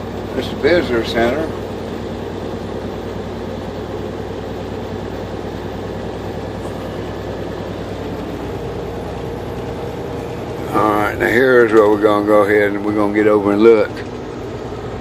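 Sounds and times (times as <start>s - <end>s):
diesel truck engine running: 0.0s - 15.0s
road noise: 0.0s - 15.0s.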